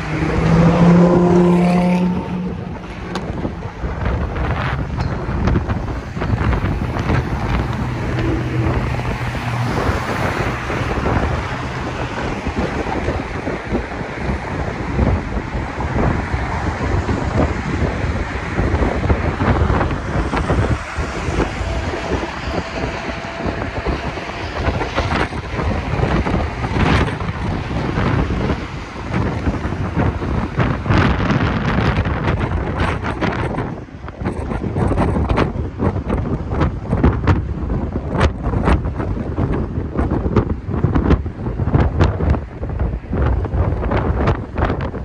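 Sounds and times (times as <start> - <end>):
bus engine and road noise: 0.0 - 45.0
wind buffeting microphone: 0.0 - 45.0.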